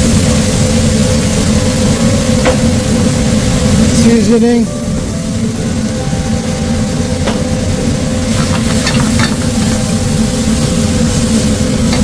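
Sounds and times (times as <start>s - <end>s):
gas burner roar: 0.0s - 12.0s
steak and vegetables sizzling: 0.0s - 12.0s.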